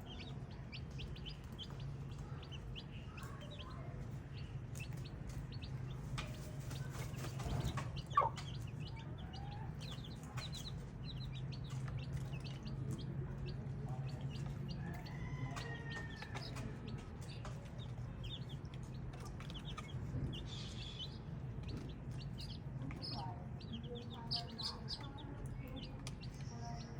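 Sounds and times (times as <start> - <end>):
baby chicks peeping: 0.0 - 26.9.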